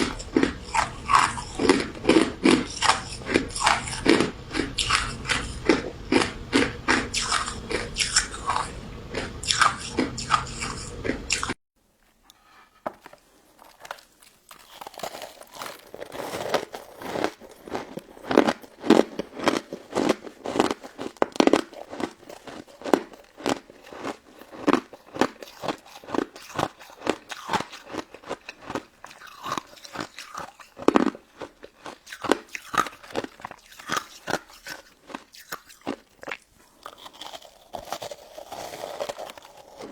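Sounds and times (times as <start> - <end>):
crunchy dessert chewing: 0.0 - 11.6, 12.4 - 39.9.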